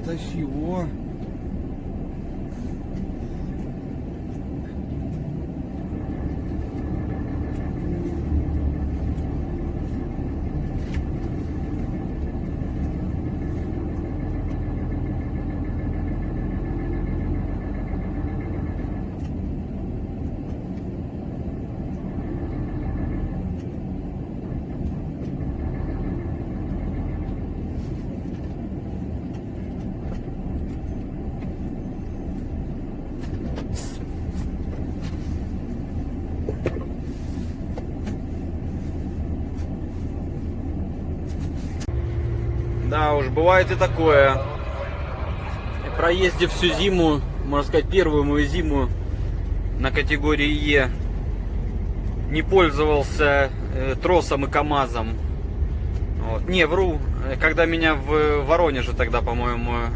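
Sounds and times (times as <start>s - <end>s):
truck engine running under load: 0.0s - 59.9s.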